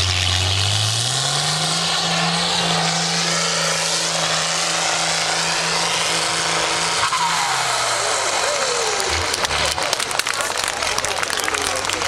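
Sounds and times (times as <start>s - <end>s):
diesel engine at high revs: 0.0s - 12.0s.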